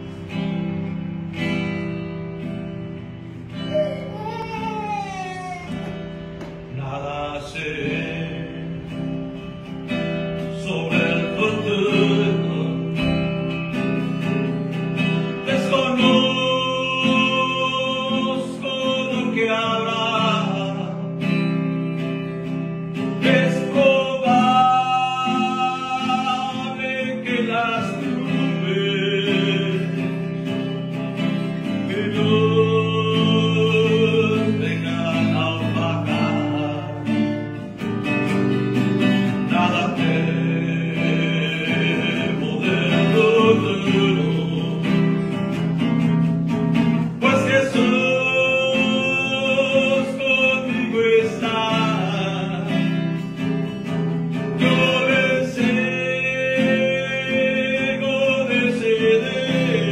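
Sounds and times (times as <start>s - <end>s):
acoustic guitar strumming: 0.0s - 59.9s
man singing a hymn: 6.6s - 22.0s, 22.9s - 37.9s, 39.0s - 46.1s, 46.7s - 59.9s.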